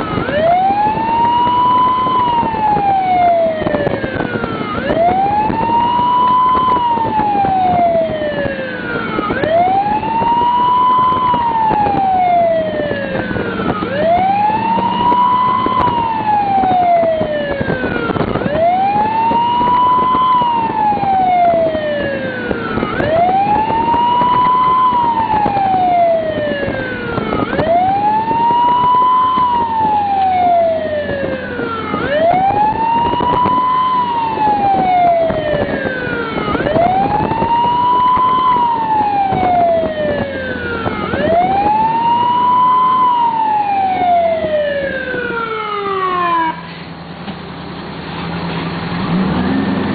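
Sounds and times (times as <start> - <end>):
emergency vehicle siren wailing: 0.0 - 47.6.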